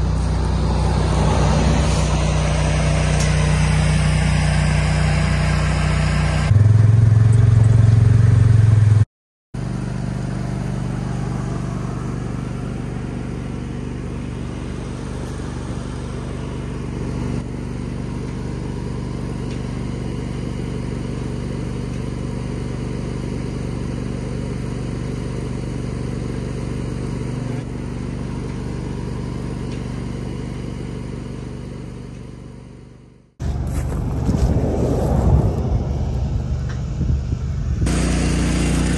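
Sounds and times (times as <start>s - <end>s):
engine humming steadily: 0.0s - 9.0s, 9.6s - 38.9s.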